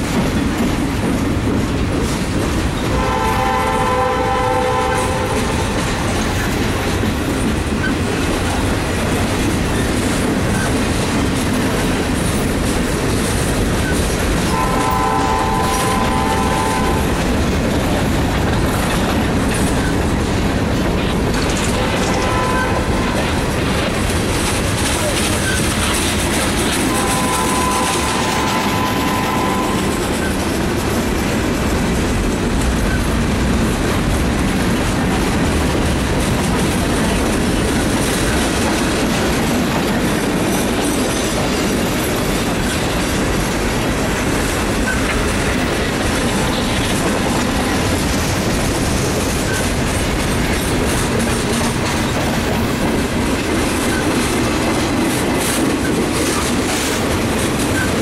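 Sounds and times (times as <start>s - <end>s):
steel wheels running on rails: 0.0s - 58.0s
train cars clacking over track: 0.0s - 58.0s.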